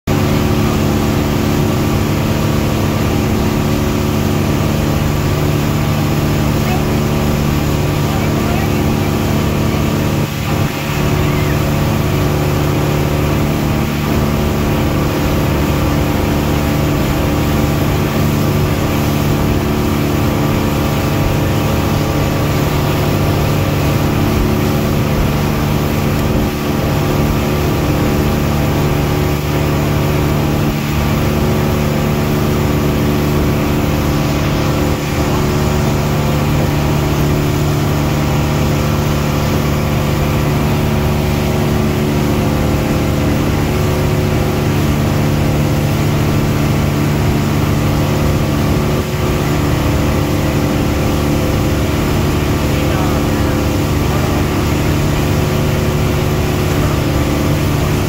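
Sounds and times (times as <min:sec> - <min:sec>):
boat engine drone: 0:00.0 - 0:58.0.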